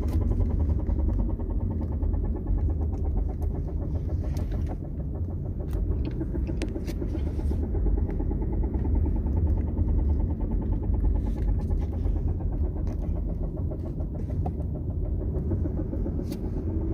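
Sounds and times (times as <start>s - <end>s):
drive shaft knocking: 0.0s - 16.9s
low rumble: 0.0s - 16.9s.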